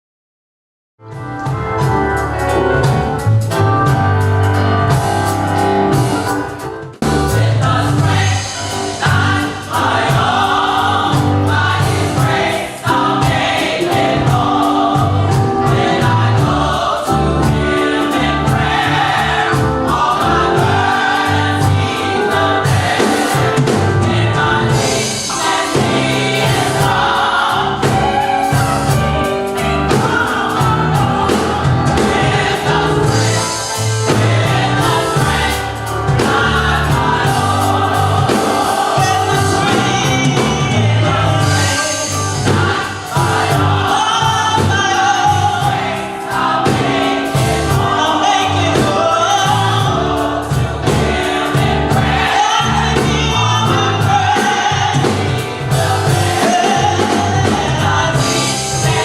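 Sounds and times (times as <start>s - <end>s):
gospel choir singing: 1.4s - 59.0s.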